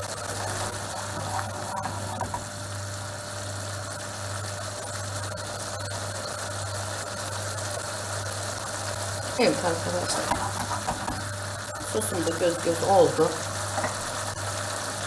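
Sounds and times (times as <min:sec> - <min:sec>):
steady low hum: 0:00.0 - 0:15.0
sauce bubbling in a frying pan: 0:00.1 - 0:12.0, 0:13.0 - 0:15.0.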